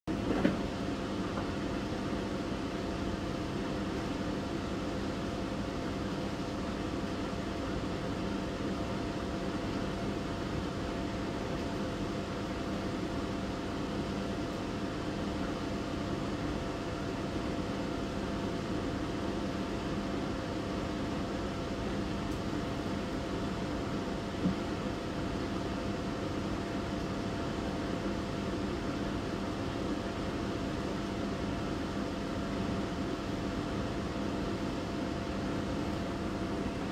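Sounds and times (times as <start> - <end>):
tumble dryer whirring hum: 0.1 - 36.9.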